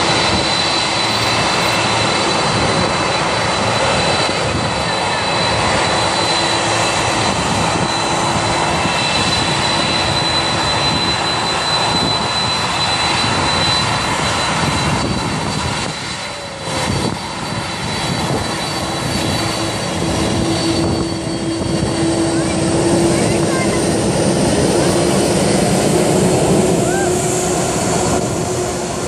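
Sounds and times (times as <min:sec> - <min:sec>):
high jet whine: 0:00.0 - 0:29.0
jet engine rush: 0:00.0 - 0:29.0.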